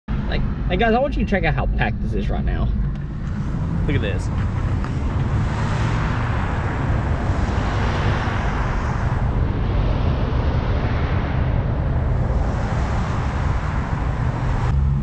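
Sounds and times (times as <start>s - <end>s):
road traffic rumble: 0.1s - 15.0s
wind on microphone: 2.7s - 15.0s.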